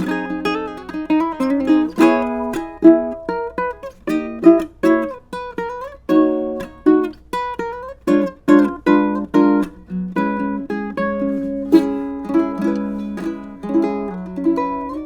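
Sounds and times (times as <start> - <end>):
ukulele plucked notes and chords: 0.0 - 15.0.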